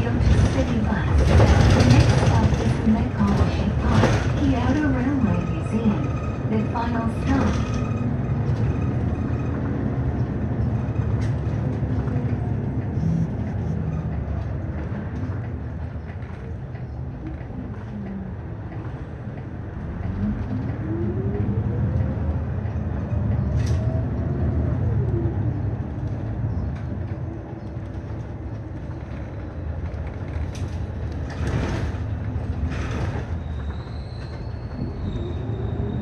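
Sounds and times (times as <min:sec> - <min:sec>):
bus engine rumble: 0:00.0 - 0:36.0.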